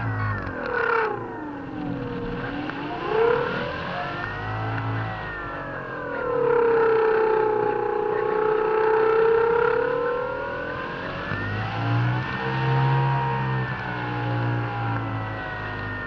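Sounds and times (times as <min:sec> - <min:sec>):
electric motor and propeller whining: 0:00.0 - 0:16.0.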